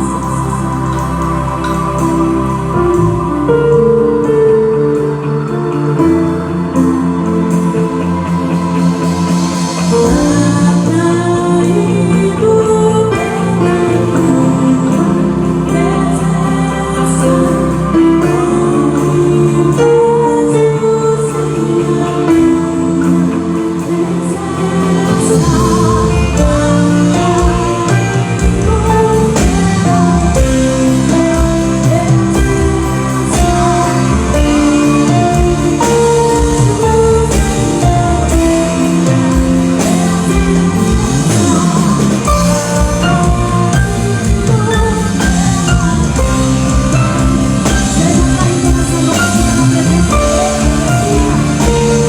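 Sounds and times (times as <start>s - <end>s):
band music with guitar: 0.0s - 52.0s
bass and drum beat: 6.8s - 19.7s, 22.3s - 52.0s.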